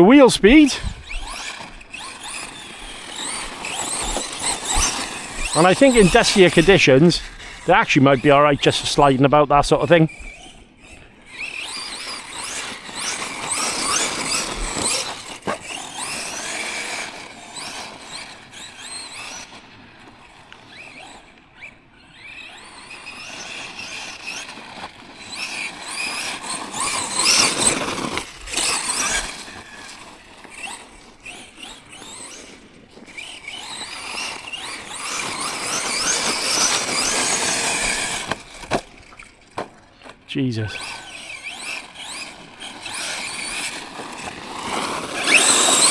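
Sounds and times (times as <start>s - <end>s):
rc truck motor whine: 0.0s - 45.9s
tyres spinning on loose ground: 0.0s - 45.9s.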